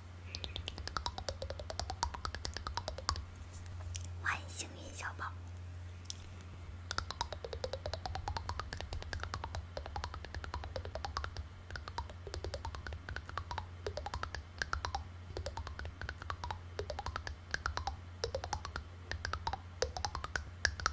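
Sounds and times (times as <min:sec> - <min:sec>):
low hum: 0:00.0 - 0:20.9
rapid light clicking: 0:00.3 - 0:04.1, 0:06.8 - 0:20.9.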